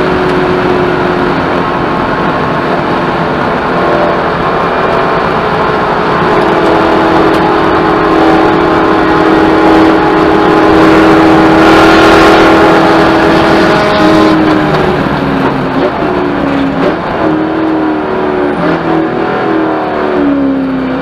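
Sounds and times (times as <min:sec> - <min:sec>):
race car engine running hard: 0:00.0 - 0:21.0
wind and road noise: 0:00.0 - 0:21.0.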